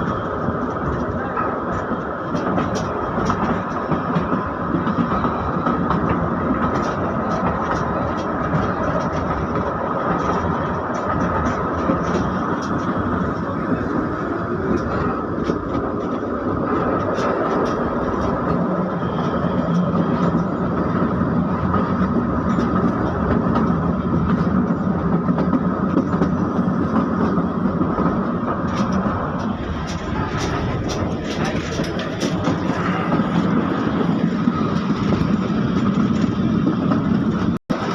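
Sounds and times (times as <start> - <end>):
train carriage rumble and rattle: 0.0 - 37.9.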